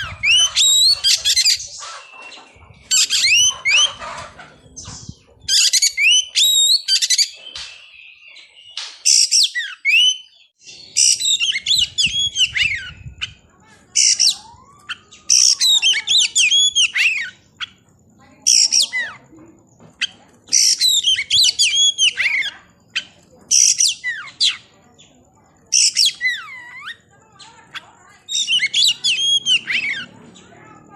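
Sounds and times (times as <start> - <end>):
bird singing whistles and chatter: 0.0 - 30.9.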